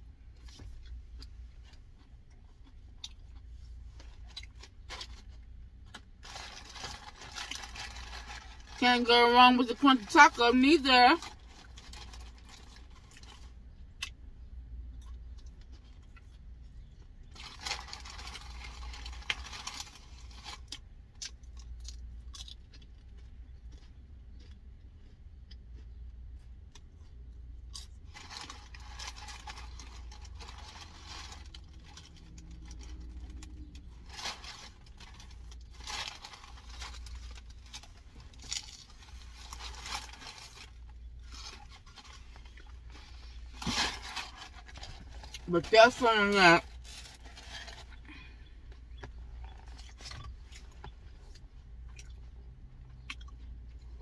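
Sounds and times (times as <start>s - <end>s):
low steady rumble: 0.0s - 54.0s
taco crunching: 0.1s - 54.0s.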